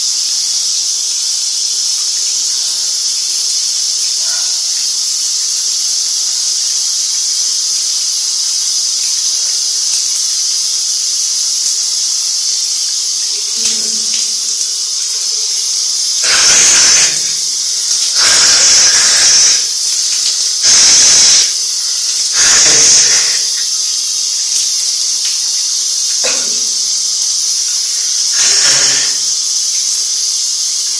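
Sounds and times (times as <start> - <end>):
shower spray hissing: 0.0 - 30.9
rushing water bursts: 2.5 - 30.9.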